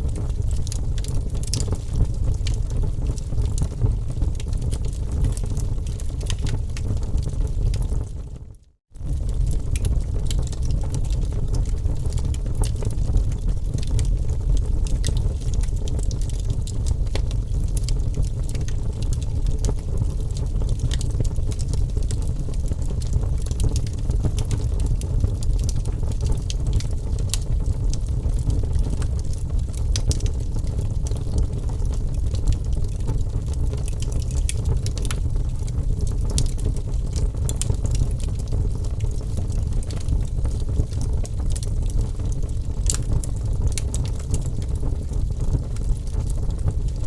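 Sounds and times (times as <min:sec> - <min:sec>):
low rumble of burning: 0:00.0 - 0:47.0
wood fire crackling: 0:00.0 - 0:47.0.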